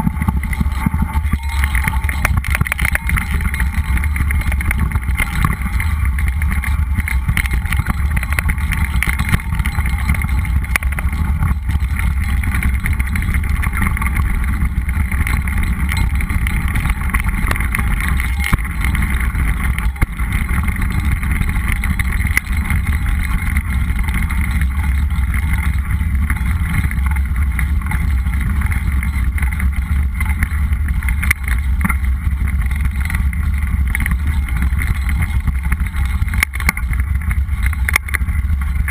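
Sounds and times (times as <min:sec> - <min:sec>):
tyres rattling on dirt trail: 0:00.0 - 0:38.9
wind buffeting camera microphone: 0:00.0 - 0:38.9.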